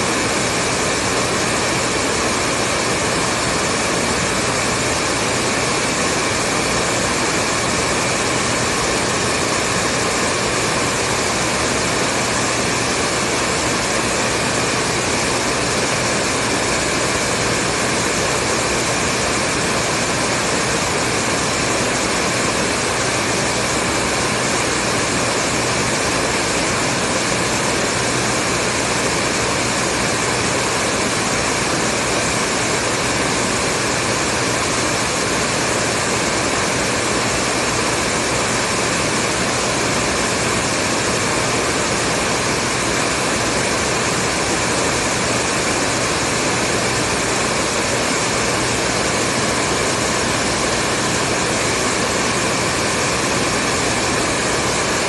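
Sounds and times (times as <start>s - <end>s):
hair dryer blowing air: 0.0s - 55.0s.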